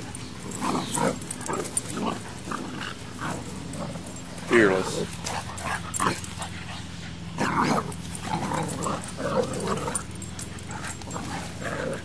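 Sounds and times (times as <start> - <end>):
dogs vocalising: 0.0 - 12.0.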